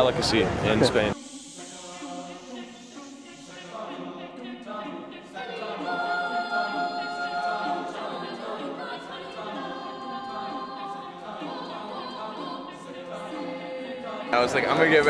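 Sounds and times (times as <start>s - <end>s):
choir singing a cappella: 0.6s - 15.0s.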